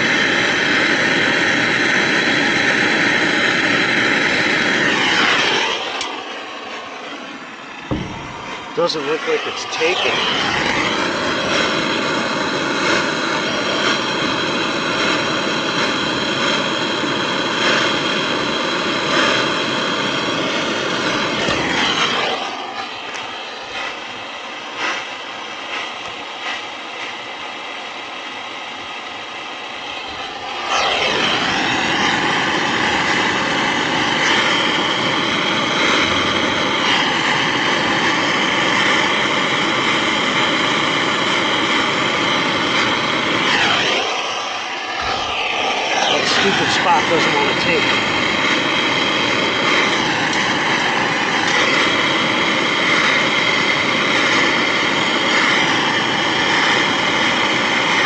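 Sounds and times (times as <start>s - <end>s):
torch flame hissing: 0.0s - 58.0s.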